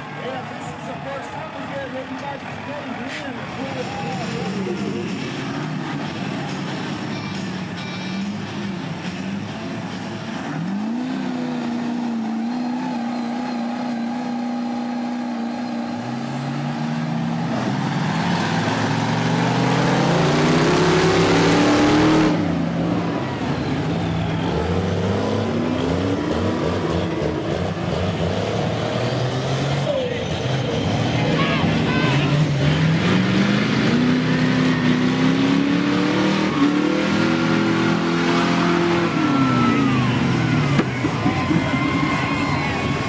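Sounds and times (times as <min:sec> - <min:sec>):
truck engines revving hard: 0:00.0 - 0:43.0.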